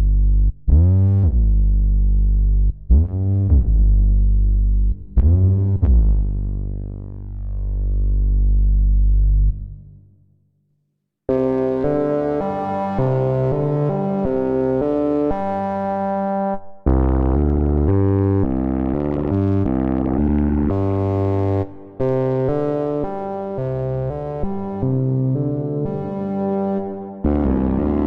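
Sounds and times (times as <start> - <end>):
synthesizer bass notes: 0.0 - 9.9, 11.3 - 28.0.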